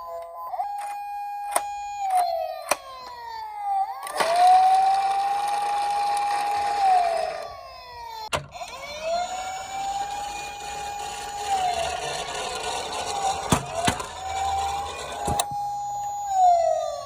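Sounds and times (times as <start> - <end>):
police siren wailing: 0.0 - 17.0.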